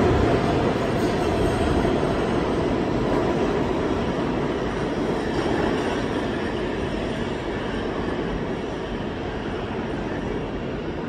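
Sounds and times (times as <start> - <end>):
subway train rumbling on rails: 0.0 - 11.0.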